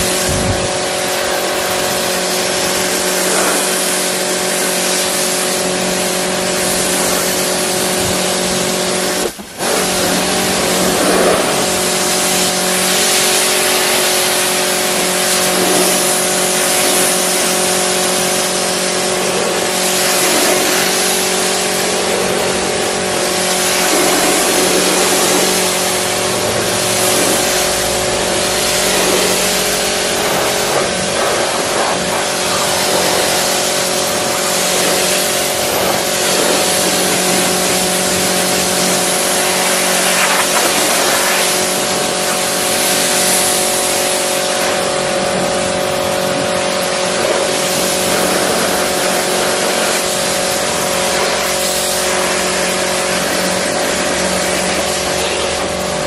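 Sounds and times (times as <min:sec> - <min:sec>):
pressure washer spray hiss: 0:00.0 - 0:56.0
steady hum: 0:00.0 - 0:56.0.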